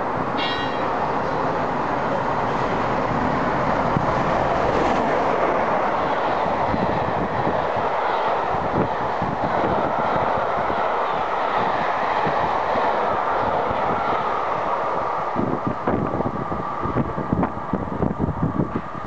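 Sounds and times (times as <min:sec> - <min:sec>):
steam locomotive passing: 0:00.0 - 0:19.0.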